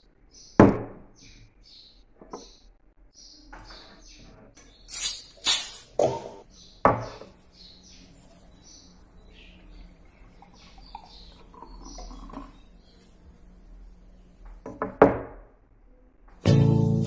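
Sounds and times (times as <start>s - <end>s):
birds chirping faintly: 0.0s - 15.0s.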